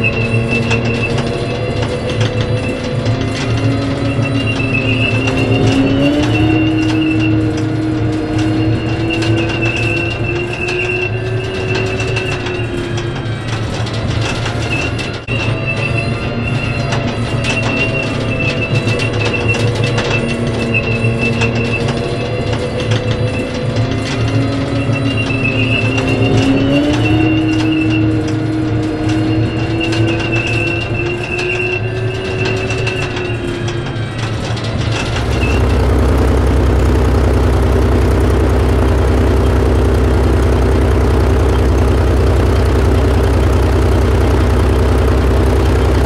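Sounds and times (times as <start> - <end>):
high track squeal: 0.0 - 46.0
tank engine drone: 0.0 - 46.0.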